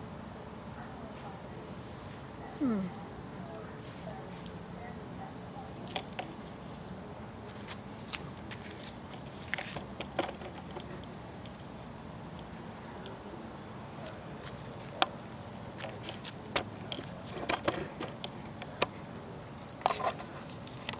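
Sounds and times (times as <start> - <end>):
high insect trill: 0.0 - 20.9.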